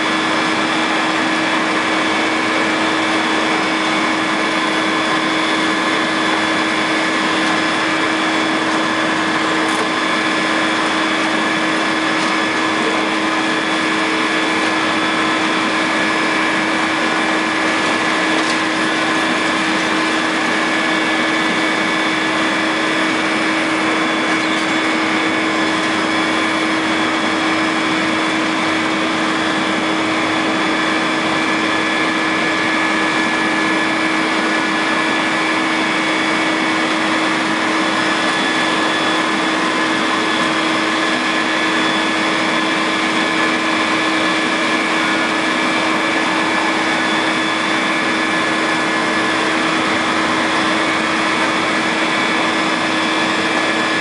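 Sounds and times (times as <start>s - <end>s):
excavator engine whining: 0.0s - 54.0s.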